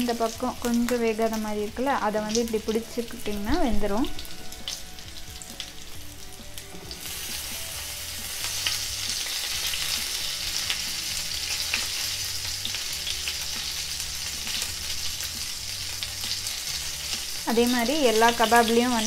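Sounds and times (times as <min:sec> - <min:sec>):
kebabs sizzling in oil: 0:00.0 - 0:19.0.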